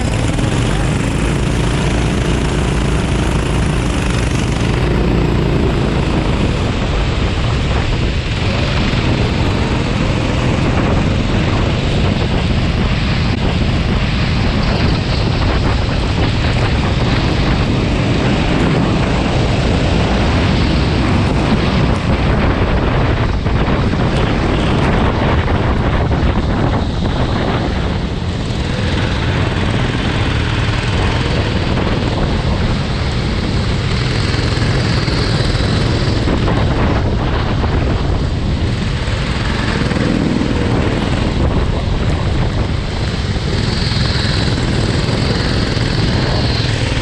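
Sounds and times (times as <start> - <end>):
go-kart engine running: 0.0 - 47.0
wind noise on microphone: 0.0 - 47.0.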